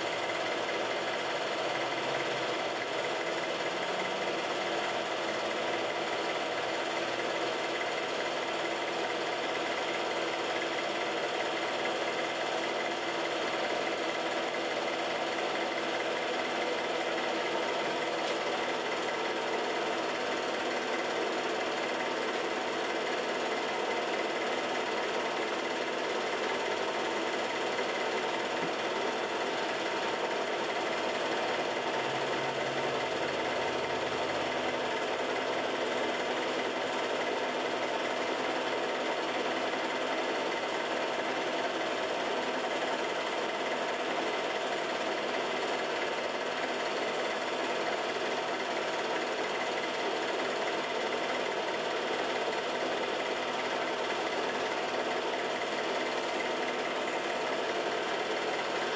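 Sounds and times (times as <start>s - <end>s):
film projector running: 0.0s - 58.9s.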